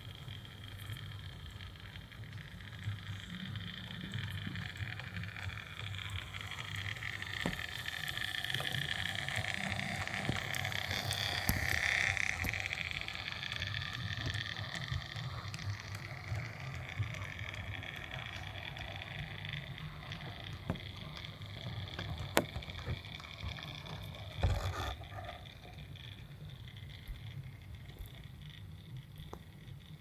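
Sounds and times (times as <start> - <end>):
model train motor whirring: 0.0 - 30.0
wheels clicking over rail joints: 0.0 - 30.0.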